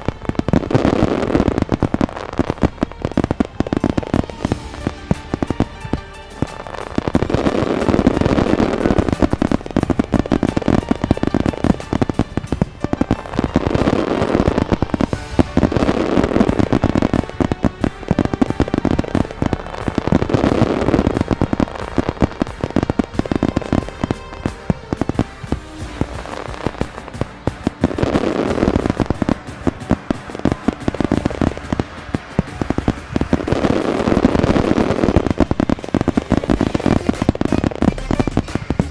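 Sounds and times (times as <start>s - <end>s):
fireworks bangs and crackling: 0.0s - 38.9s
music playing: 0.0s - 38.9s.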